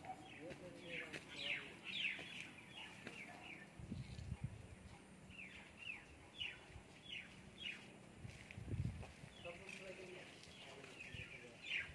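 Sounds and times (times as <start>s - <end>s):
bird chirping: 0.0s - 8.1s, 9.1s - 11.9s.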